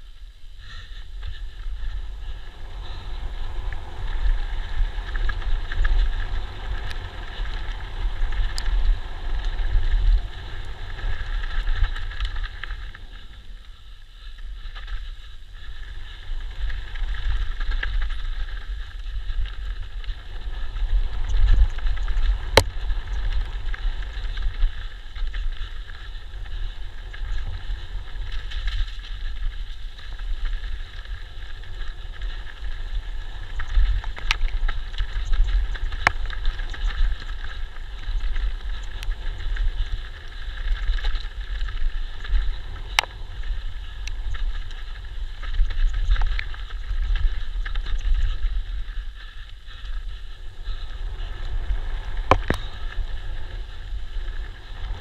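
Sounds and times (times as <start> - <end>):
bike tyres rolling and rattling on dirt: 0.0 - 55.0
low rumble on microphone: 0.0 - 55.0.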